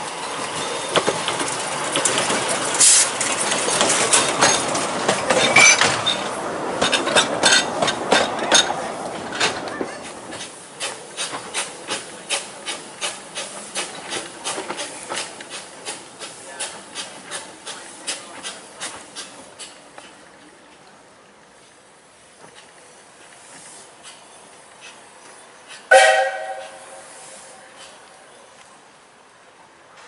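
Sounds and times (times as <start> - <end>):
train wheels clickety-clack: 0.0 - 20.9, 22.4 - 28.7
steam locomotive hissing and knocking: 0.0 - 28.6.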